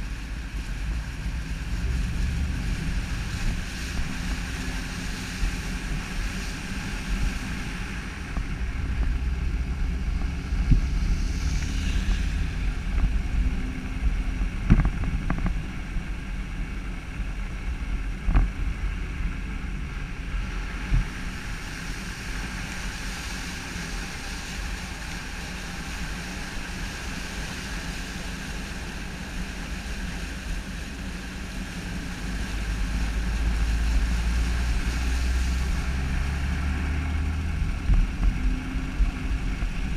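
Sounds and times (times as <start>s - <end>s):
wind buffeting microphone: 0.0s - 29.4s, 30.3s - 39.9s.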